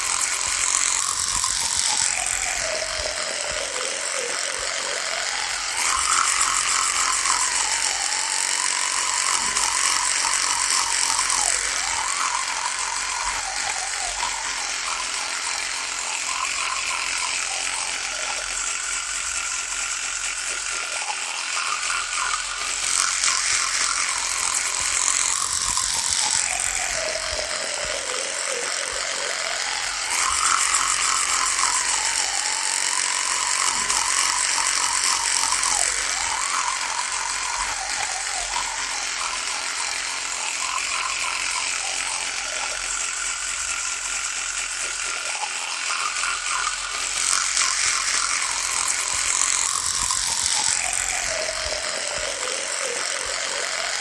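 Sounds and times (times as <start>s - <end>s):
electric toothbrush buzzing: 0.0s - 54.0s.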